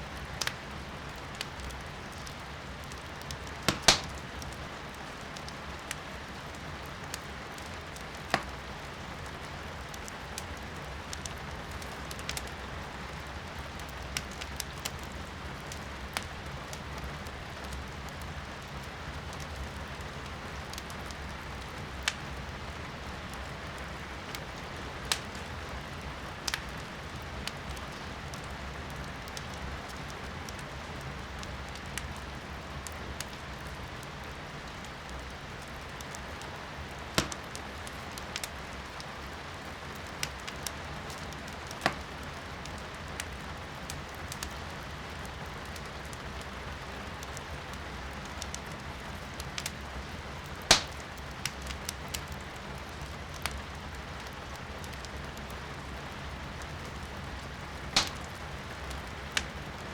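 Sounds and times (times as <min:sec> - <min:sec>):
steady rain heard indoors: 0:00.0 - 0:59.9
wood fire crackling and popping: 0:00.1 - 0:59.9.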